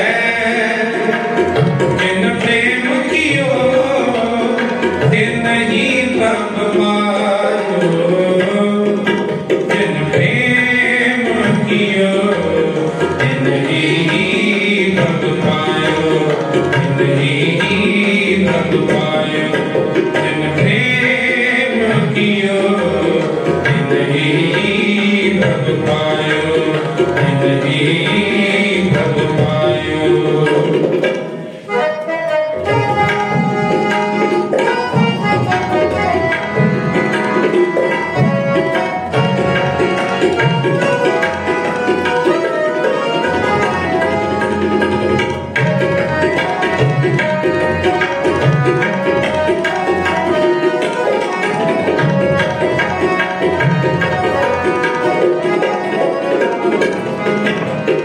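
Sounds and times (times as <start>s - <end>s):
harmoniums playing a melody: 0.0s - 58.0s
tabla: 0.0s - 58.0s.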